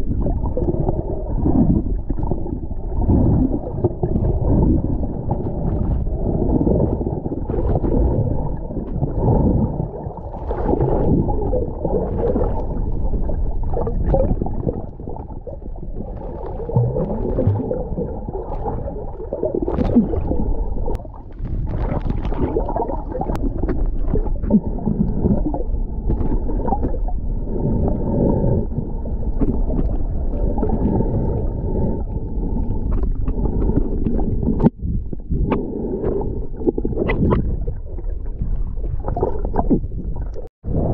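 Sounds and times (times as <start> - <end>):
muffled underwater rumble: 0.0 - 40.9.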